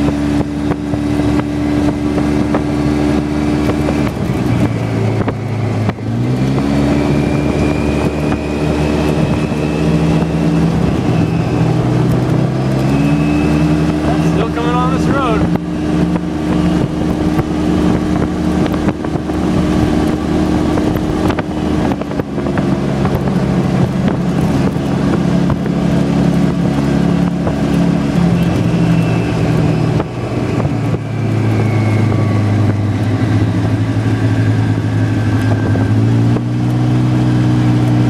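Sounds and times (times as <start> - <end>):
wind rushing: 0.0 - 36.6
vehicle engine droning: 0.0 - 38.0.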